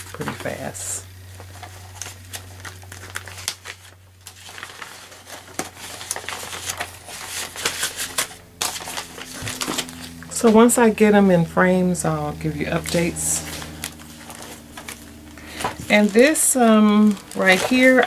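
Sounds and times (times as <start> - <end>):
packaging crinkling and rustling: 0.0 - 10.7, 12.6 - 18.0.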